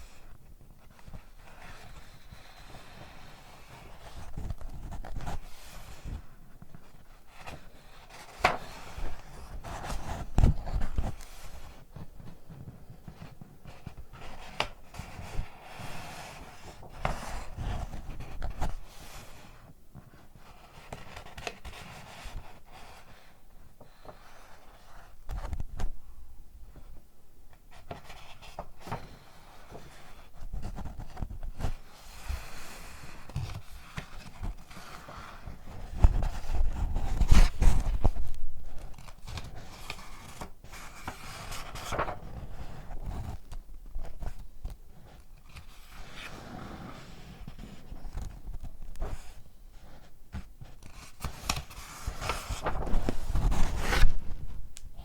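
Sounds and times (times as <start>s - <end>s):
paper rubbing and rustling: 0.2s - 25.9s, 27.7s - 54.7s.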